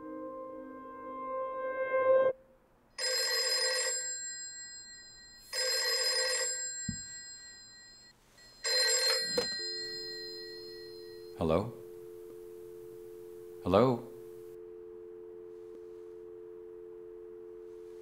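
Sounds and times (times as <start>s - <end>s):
telephone ringing: 3.0s - 18.0s.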